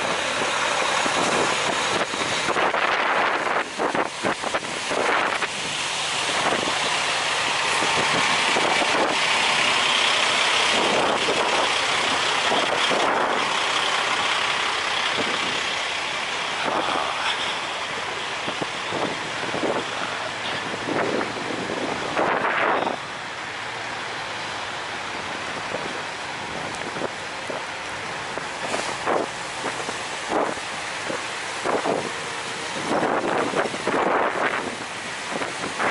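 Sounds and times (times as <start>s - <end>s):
strong wind buffeting microphone: 0.0s - 35.9s.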